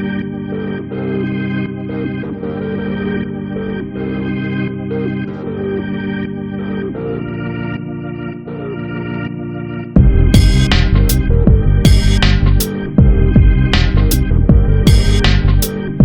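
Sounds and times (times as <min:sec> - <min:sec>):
organ-like keyboard chords: 0:00.0 - 0:16.0.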